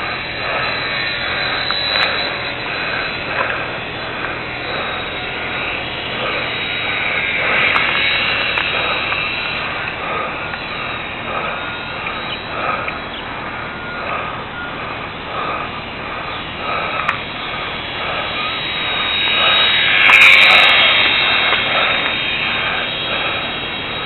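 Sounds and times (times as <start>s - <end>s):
small electric motor whine: 0.0s - 24.0s.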